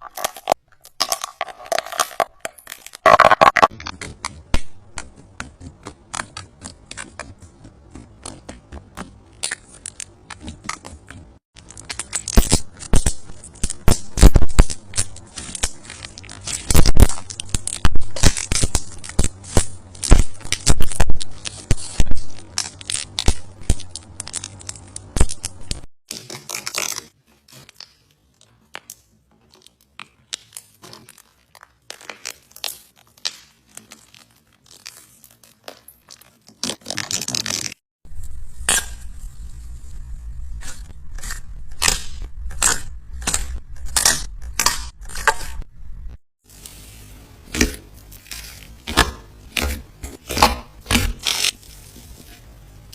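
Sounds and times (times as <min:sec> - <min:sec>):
slime squelching and crackling: 0:00.0 - 0:45.6.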